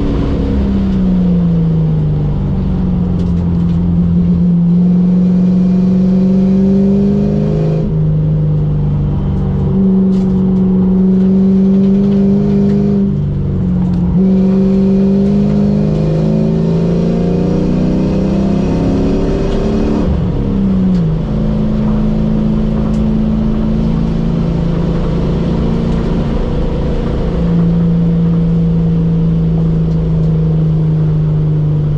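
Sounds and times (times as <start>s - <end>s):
car engine drone: 0.0s - 31.9s
road noise: 0.0s - 31.9s.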